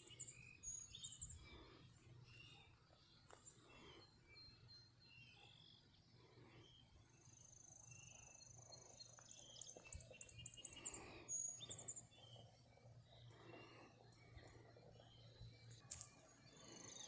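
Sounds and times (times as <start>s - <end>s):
faint low hum: 0.0s - 17.0s
small birds trilling and chirping: 0.0s - 17.0s.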